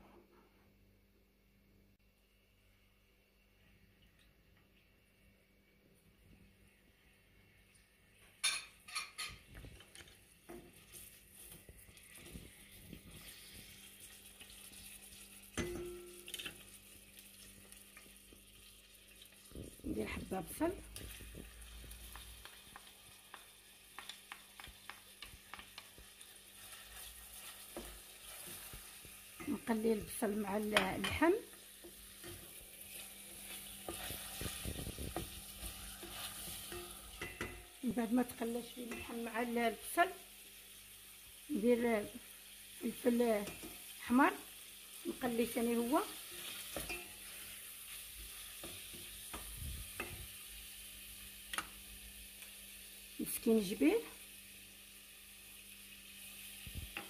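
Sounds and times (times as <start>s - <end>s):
meat and onion frying in oil: 7.6s - 57.0s.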